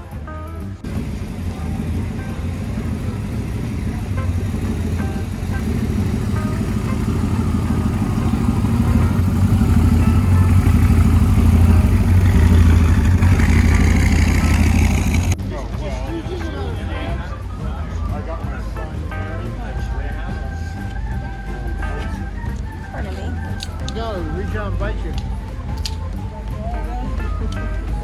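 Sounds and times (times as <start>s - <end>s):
car engine running low speed: 0.0s - 24.6s.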